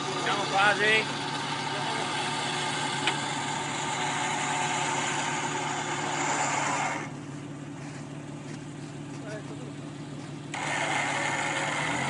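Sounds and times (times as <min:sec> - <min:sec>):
off-road vehicle engine running hard: 0:00.0 - 0:12.0.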